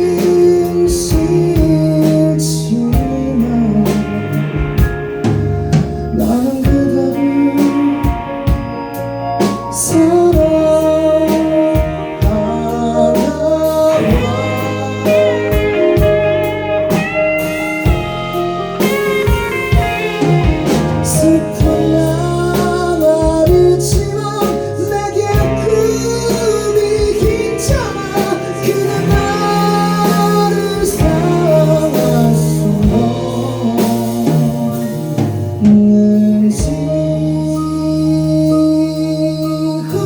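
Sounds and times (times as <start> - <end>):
bass: 0.0 - 40.0
drums: 0.0 - 40.0
guitar: 0.0 - 40.0
melody line: 3.1 - 40.0.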